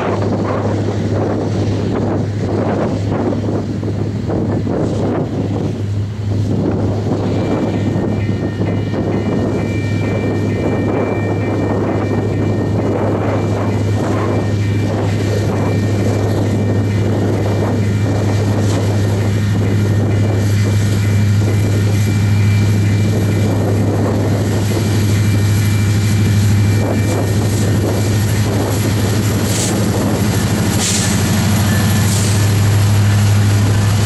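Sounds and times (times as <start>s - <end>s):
diesel locomotive engines droning: 0.0s - 34.0s
wheel and rail noise: 0.0s - 34.0s.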